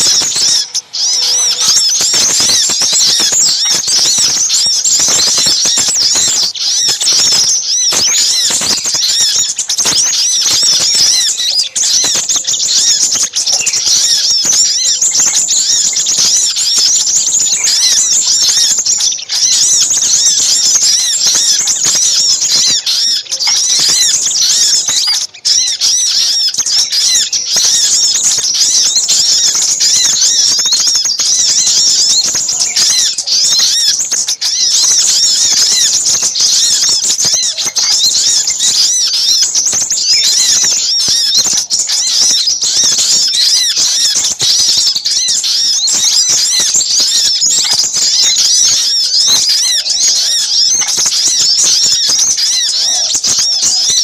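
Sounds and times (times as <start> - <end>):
songbirds chattering: 0.0 - 54.0.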